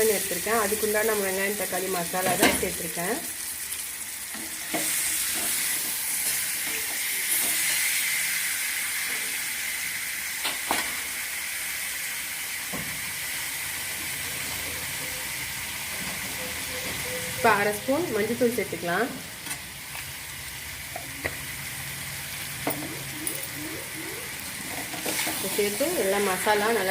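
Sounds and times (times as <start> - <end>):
chicken sizzling in a pan: 0.0 - 26.9.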